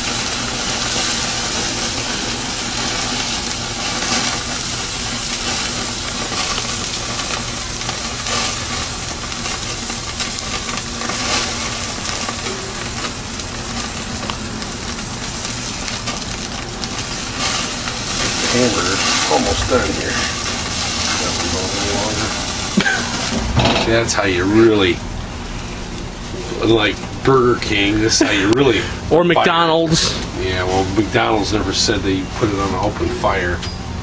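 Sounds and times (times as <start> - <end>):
burgers sizzling on grill: 0.0 - 34.0.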